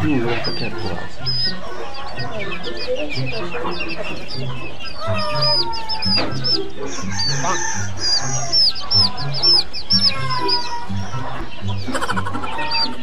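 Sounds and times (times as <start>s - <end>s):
background music with low beat: 0.0s - 13.0s
chicks peeping: 0.0s - 13.0s.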